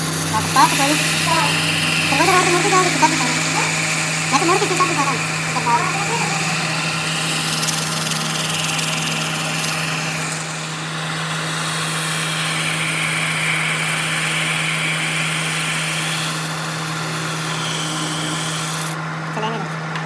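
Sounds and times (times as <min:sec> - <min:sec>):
lathe humming: 0:00.0 - 0:19.3.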